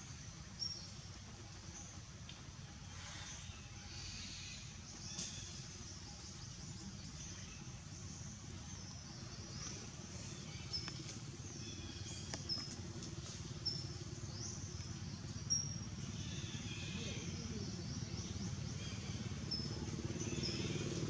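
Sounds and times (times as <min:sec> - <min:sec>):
low background rumble: 0:00.0 - 0:21.0
birds chirping: 0:03.3 - 0:21.0.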